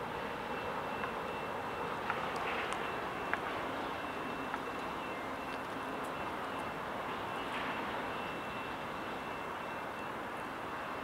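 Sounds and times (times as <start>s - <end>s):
faint high steady tone: 0.0s - 11.0s
train wheels on track: 0.0s - 11.0s.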